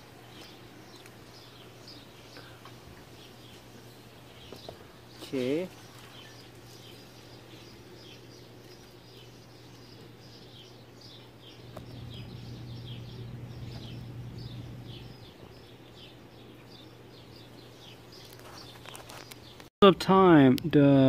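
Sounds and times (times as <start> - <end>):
faint low hum: 0.0 - 18.3
small bird chirping: 0.2 - 19.7.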